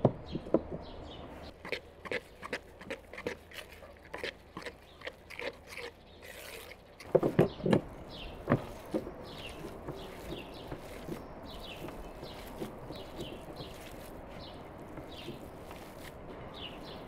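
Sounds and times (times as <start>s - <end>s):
small bird chirping: 3.2s - 17.0s.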